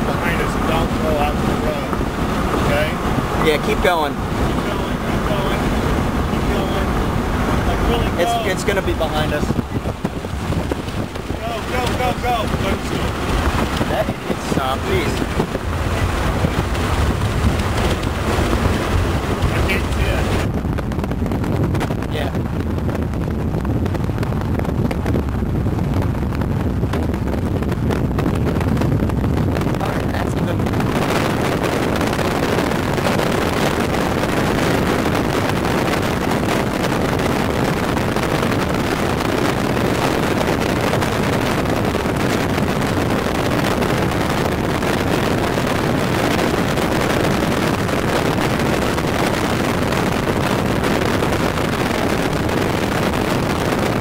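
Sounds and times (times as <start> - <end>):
bright wind hiss on microphone: 0.0 - 54.0
vehicle rumble: 0.0 - 54.0
wind rushing: 0.0 - 54.0.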